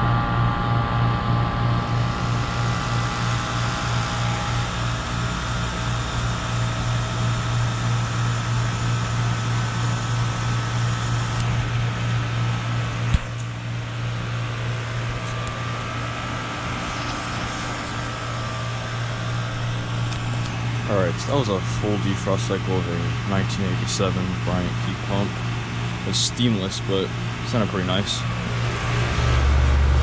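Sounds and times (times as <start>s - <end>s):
heat pump compressor hum: 0.0s - 30.0s.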